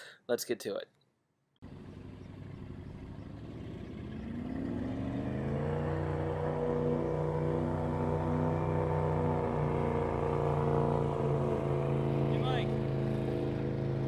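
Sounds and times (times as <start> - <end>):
boat motor speeding up: 1.6 - 14.0.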